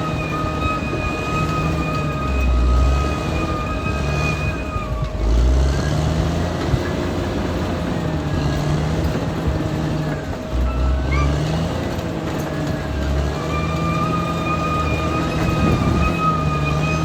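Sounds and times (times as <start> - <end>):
bulldozer diesel engine rumbling: 0.0 - 17.0
high whine: 0.0 - 17.0.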